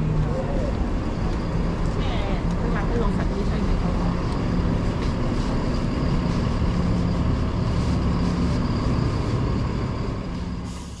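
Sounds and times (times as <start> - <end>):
traffic rumble and hum: 0.0 - 11.0.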